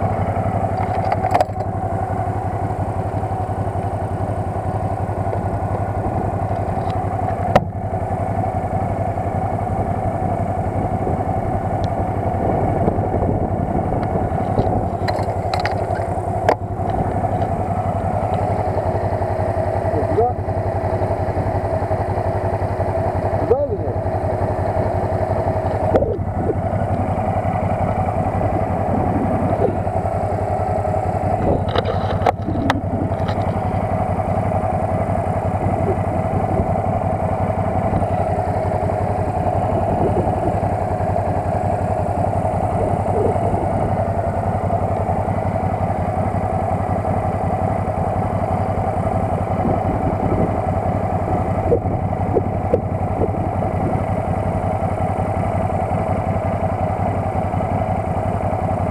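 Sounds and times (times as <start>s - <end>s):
quad bike engine running: 0.0s - 58.9s.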